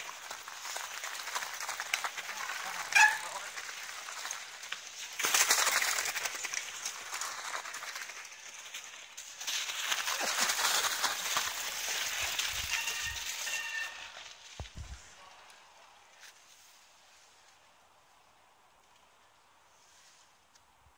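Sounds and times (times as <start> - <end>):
bike tyres crunching on snow: 0.0 - 20.5.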